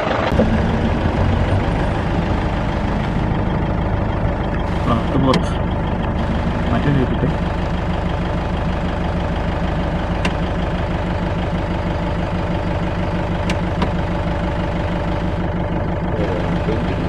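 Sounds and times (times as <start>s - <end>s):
jeep engine running: 0.0s - 17.0s.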